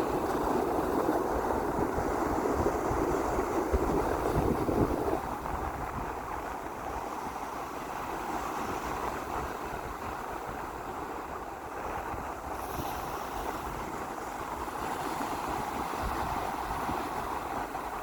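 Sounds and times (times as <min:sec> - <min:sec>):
sea waves washing in: 0:00.0 - 0:18.0
wind rumbling on microphone: 0:00.0 - 0:18.0.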